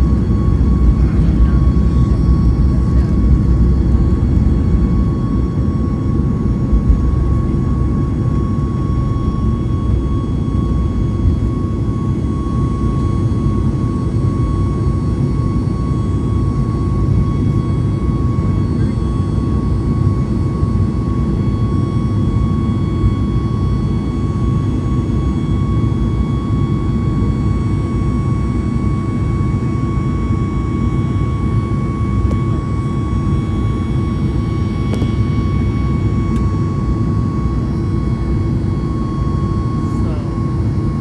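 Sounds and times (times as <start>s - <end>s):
jet engines rumbling: 0.0s - 23.5s, 29.6s - 41.0s
thin steady whine: 0.0s - 25.5s, 28.2s - 41.0s.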